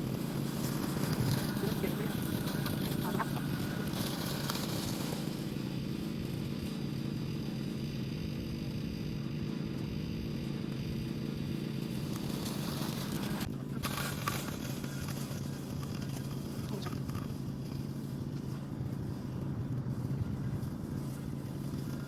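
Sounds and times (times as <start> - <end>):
lawn mower running: 0.0 - 22.0.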